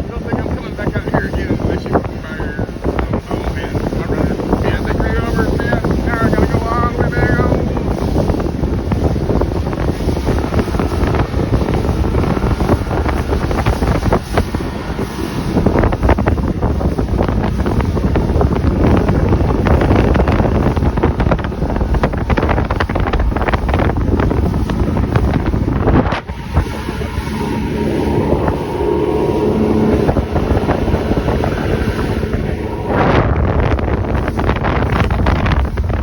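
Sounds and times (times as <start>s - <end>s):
outboard motor drone: 0.0s - 36.0s
wind buffeting microphone: 0.0s - 36.0s.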